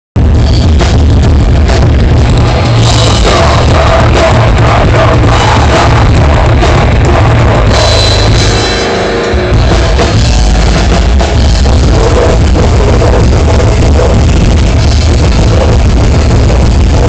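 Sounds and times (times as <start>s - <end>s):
loud rock music: 0.2s - 17.0s.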